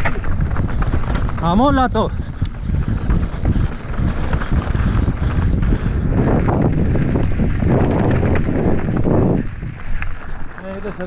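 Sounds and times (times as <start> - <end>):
bike tyres and frame rattling: 0.0 - 11.0
wind buffeting microphone: 0.0 - 11.0.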